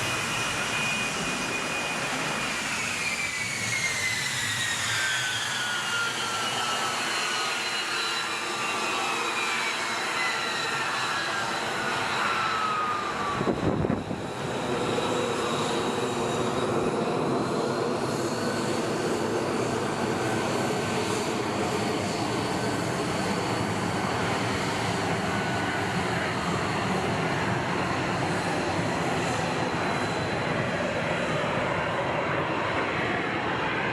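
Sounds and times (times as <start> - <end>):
jet engine turbine whine: 0.0 - 33.9.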